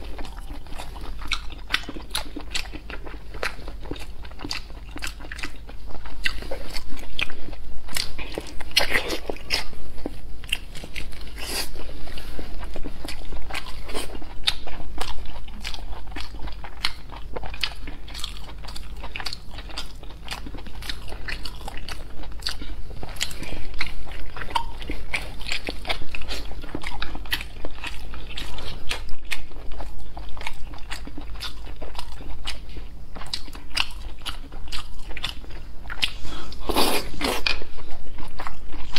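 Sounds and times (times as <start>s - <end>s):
chewing meat: 0.0s - 38.9s.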